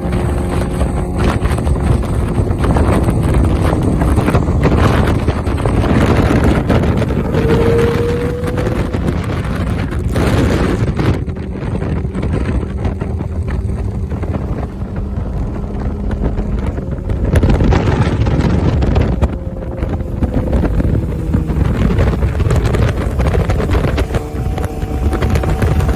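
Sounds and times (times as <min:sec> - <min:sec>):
motorcycle engine running: 0:00.0 - 0:25.9
wind buffeting microphone: 0:00.0 - 0:25.9.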